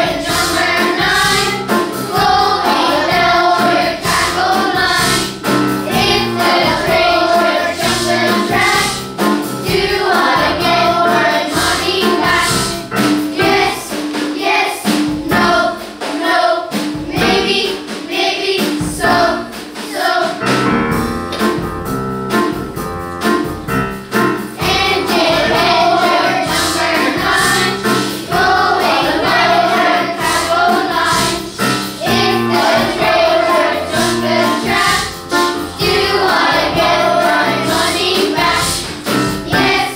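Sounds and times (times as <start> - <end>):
children's choir singing: 0.0 - 21.0, 24.4 - 39.9
instrumental accompaniment with beat: 0.0 - 39.9.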